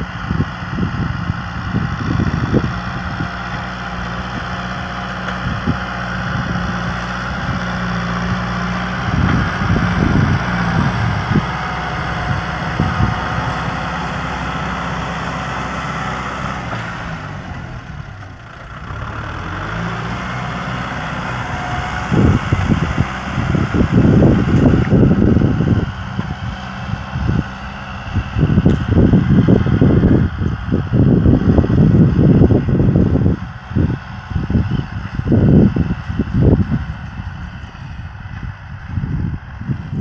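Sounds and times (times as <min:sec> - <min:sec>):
loud low buffeting noise: 0:00.0 - 0:40.0
tractor diesel engine running: 0:00.0 - 0:40.0.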